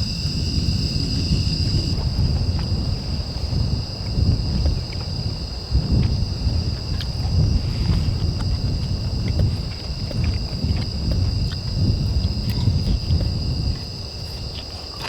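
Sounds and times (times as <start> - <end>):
crickets chirring: 0.0 - 15.0
wind rumble on microphone: 0.0 - 15.0.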